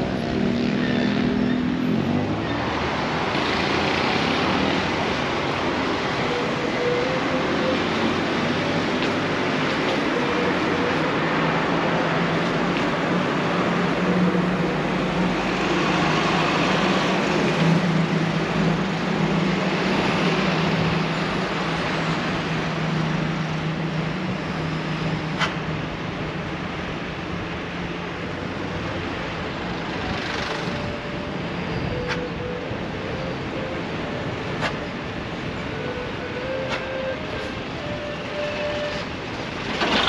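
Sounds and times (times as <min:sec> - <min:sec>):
road noise: 0:00.0 - 0:40.0
vehicle engine drone: 0:00.0 - 0:40.0.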